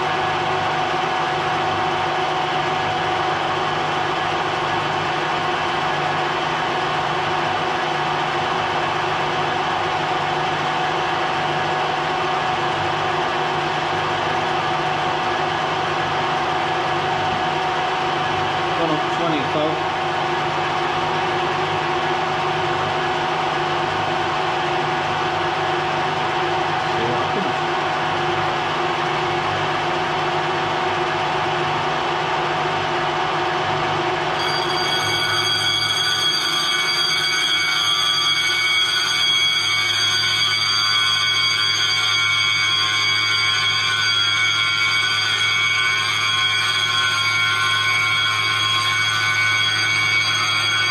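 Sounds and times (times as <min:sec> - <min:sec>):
milling machine whining hum: 0:00.0 - 0:50.9.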